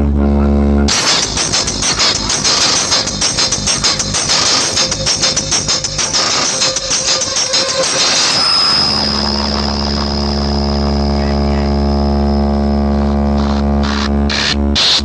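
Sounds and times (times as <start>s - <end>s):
deep bass drone: 0.0s - 15.0s
short pulsing bass hits: 0.0s - 15.0s.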